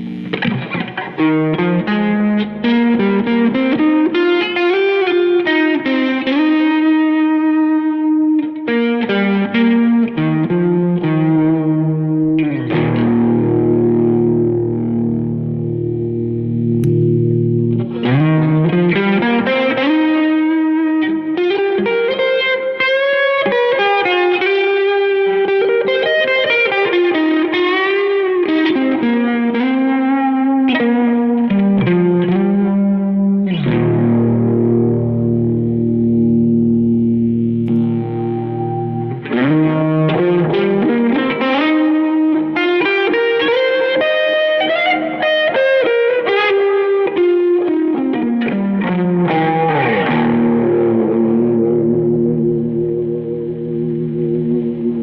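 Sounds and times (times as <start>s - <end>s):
electric guitar with phaser: 0.0s - 55.0s.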